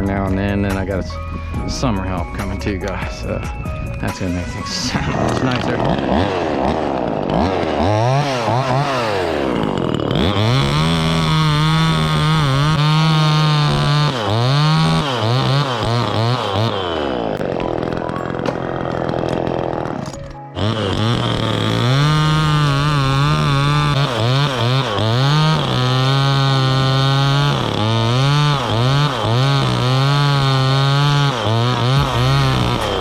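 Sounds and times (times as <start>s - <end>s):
chainsaw cutting wood: 4.4s - 33.0s.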